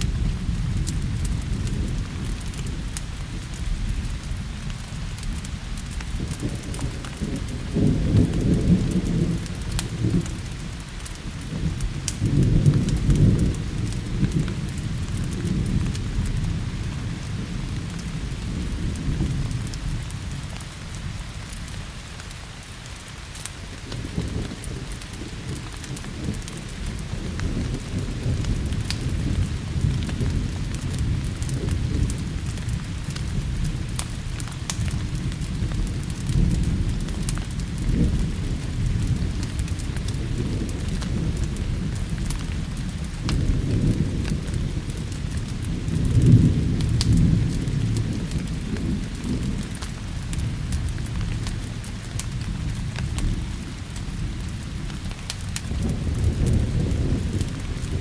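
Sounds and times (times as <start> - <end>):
rolling thunder: 0.0 - 21.7, 23.6 - 58.0
steady rain: 0.0 - 58.0.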